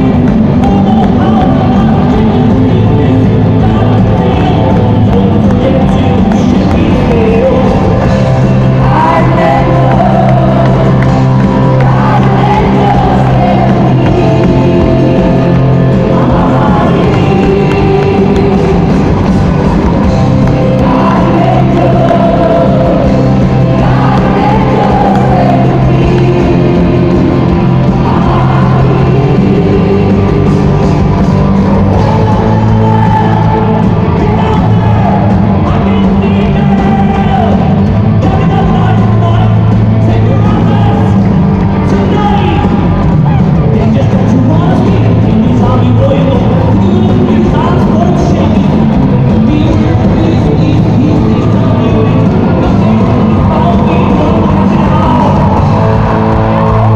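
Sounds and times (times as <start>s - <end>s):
person singing: 0.0s - 56.9s
rock band playing: 0.0s - 56.9s.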